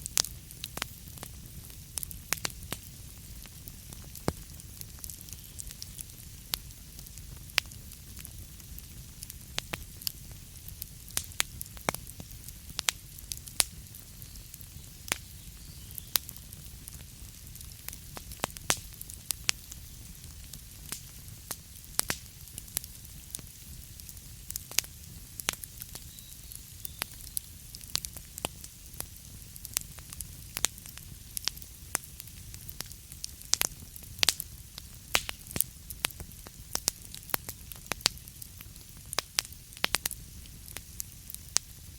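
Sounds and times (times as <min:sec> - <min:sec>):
burning wood crackling: 0:00.0 - 0:41.9.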